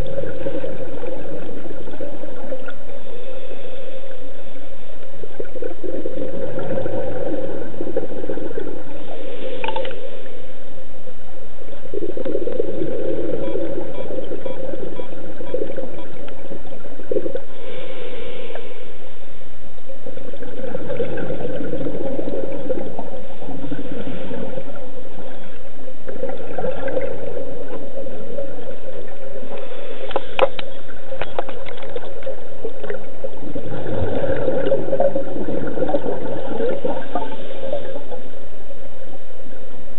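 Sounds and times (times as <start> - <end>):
scuba exhaust bubbles rushing: 0.0 - 3.1, 5.2 - 10.1, 11.9 - 18.4, 19.8 - 39.2
steady underwater hiss: 0.0 - 39.9.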